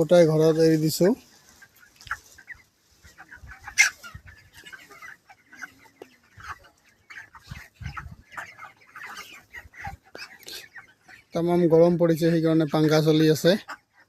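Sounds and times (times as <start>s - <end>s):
chickens clucking and chirping: 0.0s - 14.0s.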